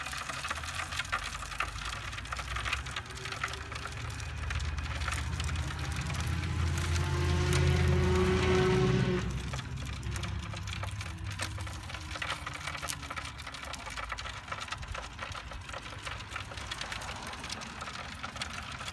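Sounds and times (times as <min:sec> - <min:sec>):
fat crackling: 0:00.0 - 0:18.9.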